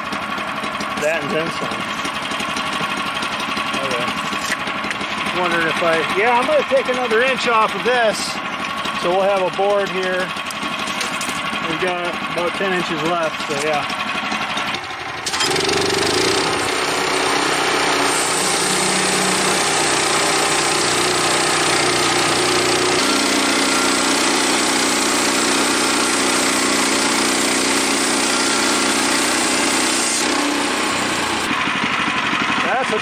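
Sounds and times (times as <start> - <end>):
gas engine running: 0.0 - 33.0
saw blade cutting wood: 0.7 - 33.0.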